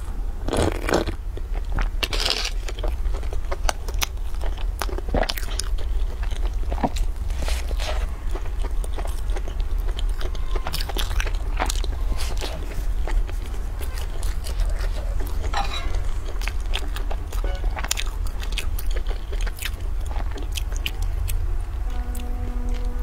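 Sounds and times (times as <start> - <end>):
steady low hum: 0.0 - 23.0
chewing: 0.5 - 22.9.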